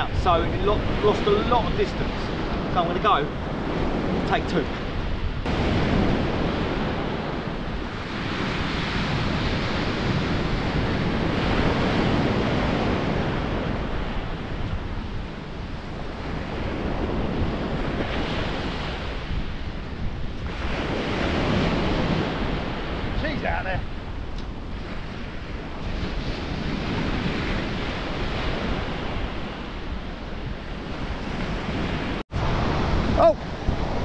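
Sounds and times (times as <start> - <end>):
surf washing up stony beach: 0.0 - 34.0
wind buffeting microphone: 0.0 - 34.0.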